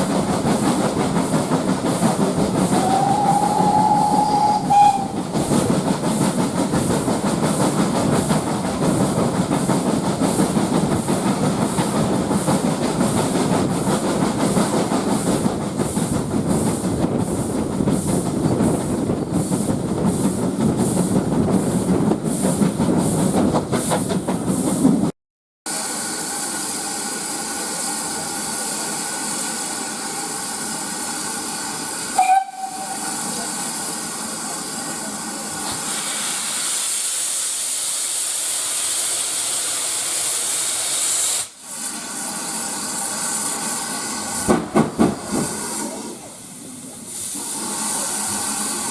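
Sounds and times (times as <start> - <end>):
steam hissing: 0.0 - 24.8, 25.7 - 48.9
steam locomotive running: 0.0 - 25.1, 25.7 - 48.9.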